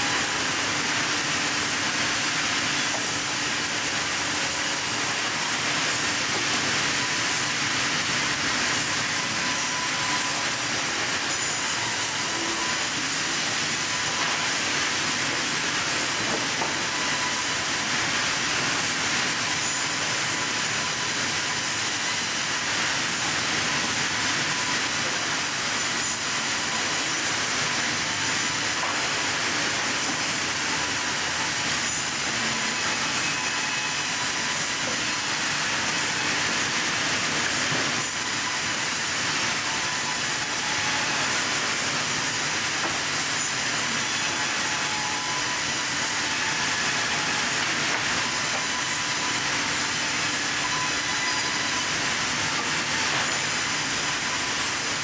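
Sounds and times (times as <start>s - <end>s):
band saw cutting wood: 0.0s - 55.0s.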